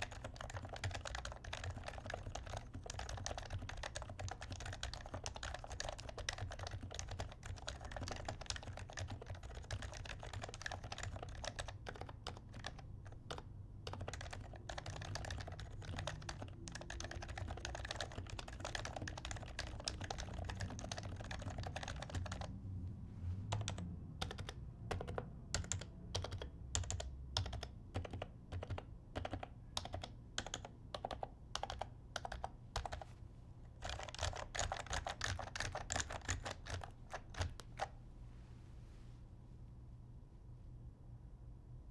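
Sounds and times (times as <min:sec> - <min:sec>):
muted keyboard typing: 0:00.0 - 0:22.6, 0:23.5 - 0:33.1, 0:33.8 - 0:38.0.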